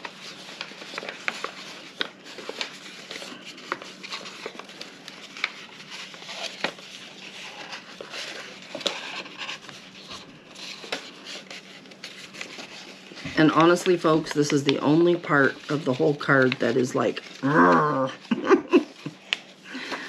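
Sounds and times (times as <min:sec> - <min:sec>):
paper folding and crinkling: 0:00.0 - 0:20.0.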